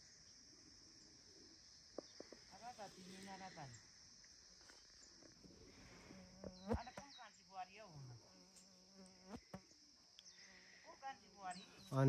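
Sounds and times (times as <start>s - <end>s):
insect buzzing: 0.0s - 12.0s.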